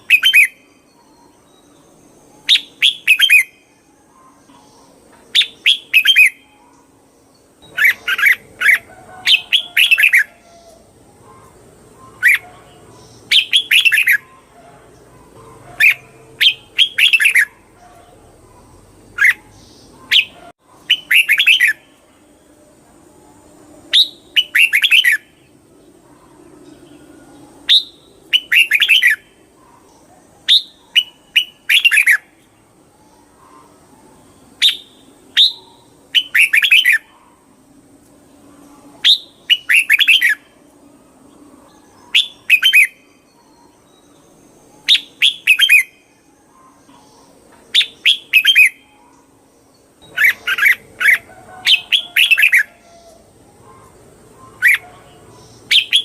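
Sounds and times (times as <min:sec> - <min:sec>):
bulbul singing bright phrases: 0:00.0 - 0:37.6, 0:38.2 - 0:56.0.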